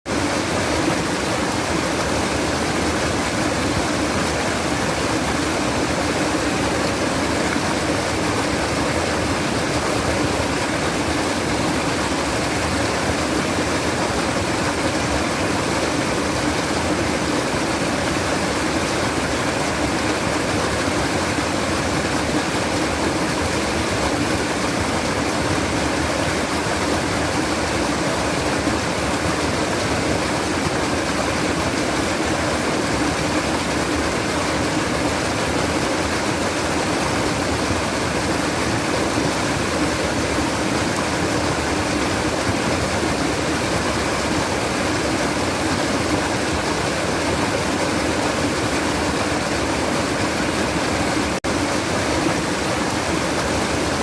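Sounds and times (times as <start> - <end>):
water babbling: 0.1 - 54.0.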